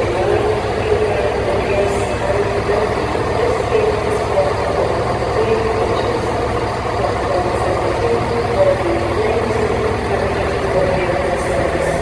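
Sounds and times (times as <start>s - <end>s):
diesel train engine running: 0.0s - 12.0s.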